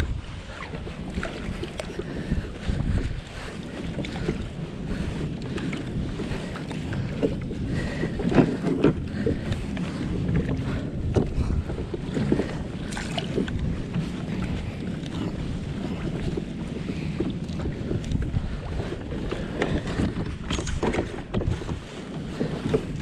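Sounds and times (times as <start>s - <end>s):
water around kayak hull: 0.0s - 23.0s
wind buffeting microphone: 0.0s - 23.0s.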